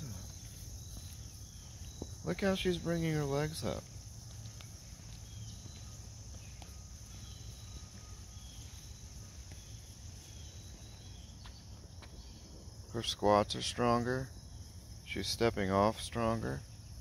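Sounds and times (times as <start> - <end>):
faint high chirps: 0.0 - 15.2
crickets trilling: 0.0 - 17.0.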